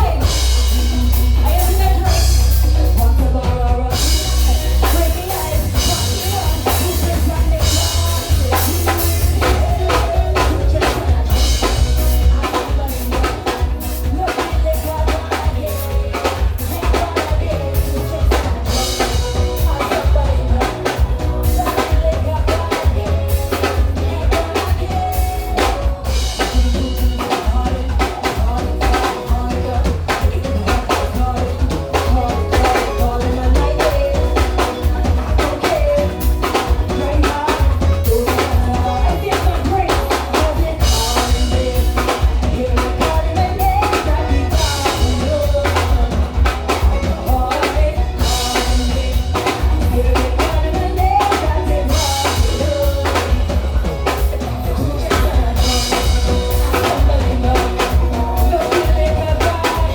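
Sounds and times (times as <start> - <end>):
soca music over loudspeakers: 0.0 - 59.9.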